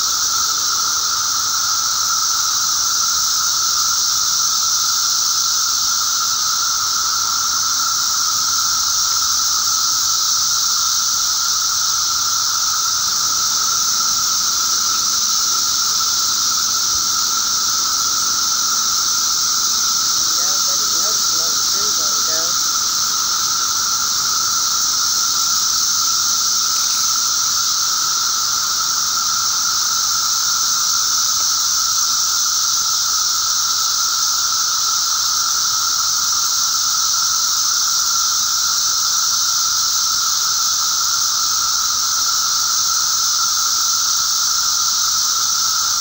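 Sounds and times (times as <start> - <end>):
cicadas droning: 0.0 - 46.0.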